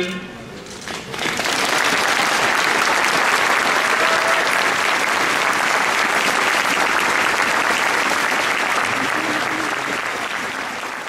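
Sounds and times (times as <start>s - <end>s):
crowd applauding: 0.9s - 11.0s.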